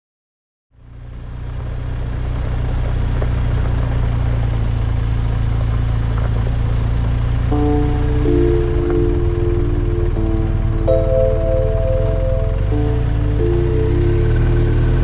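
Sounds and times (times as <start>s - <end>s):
motorcycle engine running: 0.8s - 15.0s.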